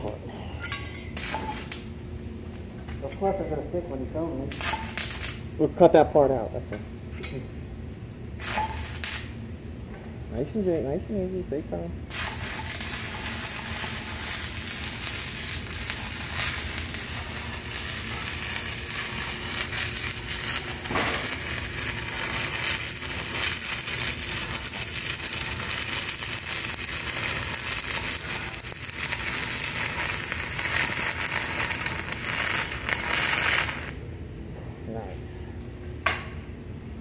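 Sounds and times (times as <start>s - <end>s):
welding arc crackling and sizzling: 1.0s - 2.3s, 3.0s - 6.5s, 8.2s - 34.0s.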